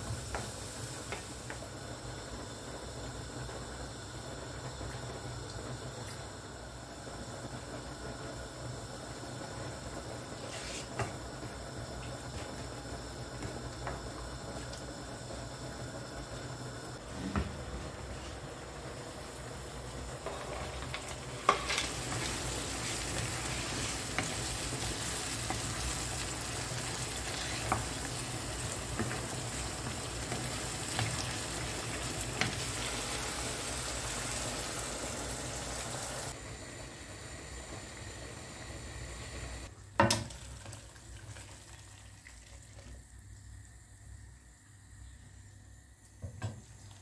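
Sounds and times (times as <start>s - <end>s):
food sizzling in a pan: 0.0s - 17.0s, 18.0s - 43.5s.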